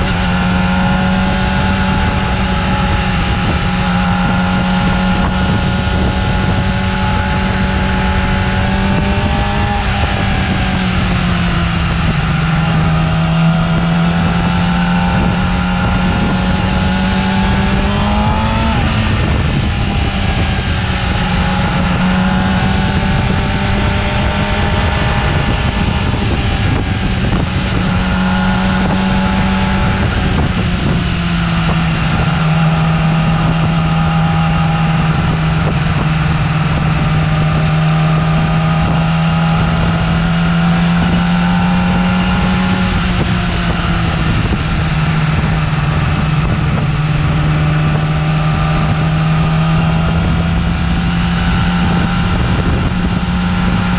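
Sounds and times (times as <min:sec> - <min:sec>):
motorcycle engine at high revs: 0:00.0 - 0:53.9.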